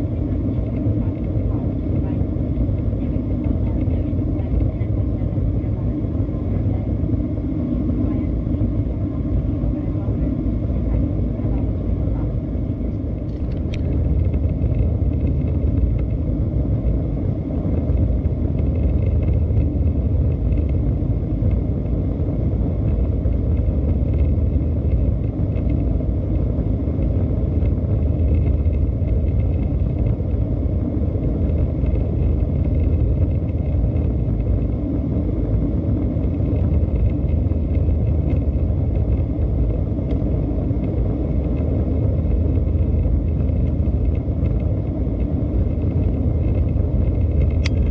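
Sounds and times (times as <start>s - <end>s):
airplane cabin engine rumble: 0.0s - 47.9s.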